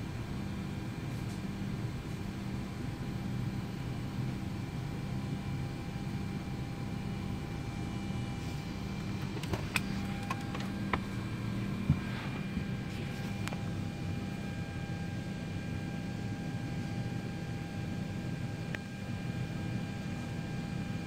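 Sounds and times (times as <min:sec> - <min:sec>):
cabin ventilation hum and hiss: 0:00.0 - 0:21.0
fixed humming tones: 0:00.0 - 0:21.0.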